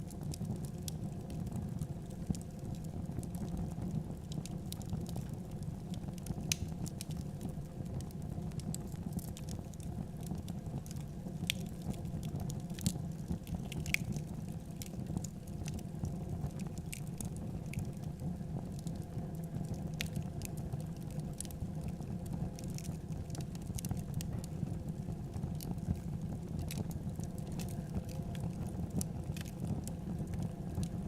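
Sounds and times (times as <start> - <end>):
low rumble of burning: 0.0 - 31.0
wood fire crackling and popping: 0.0 - 31.0.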